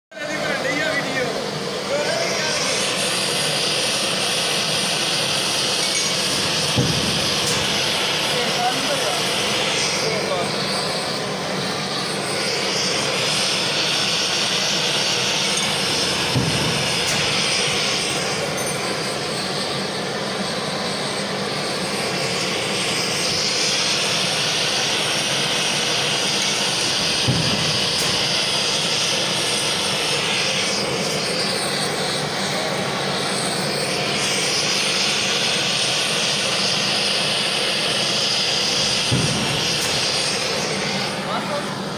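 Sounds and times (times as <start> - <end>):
forge burner roaring: 0.1 - 41.9.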